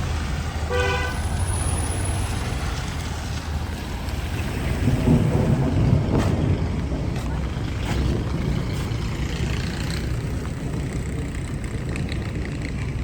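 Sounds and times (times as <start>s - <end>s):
passing traffic: 0.0s - 13.0s
wind buffeting microphone: 0.0s - 13.0s.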